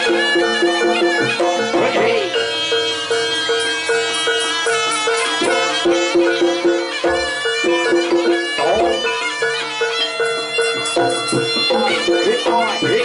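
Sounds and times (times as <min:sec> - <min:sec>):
gamelan percussion: 0:00.0 - 0:13.0
pitched gong pattern: 0:00.0 - 0:13.0
shrill reed pipe melody: 0:00.0 - 0:13.0.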